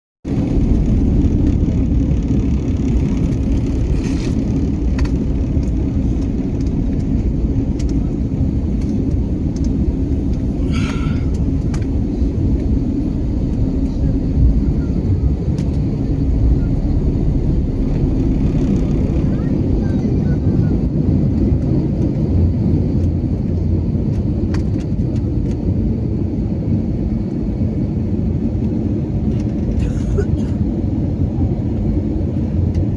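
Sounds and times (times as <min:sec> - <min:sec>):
airliner cabin rumble: 0:00.3 - 0:32.9.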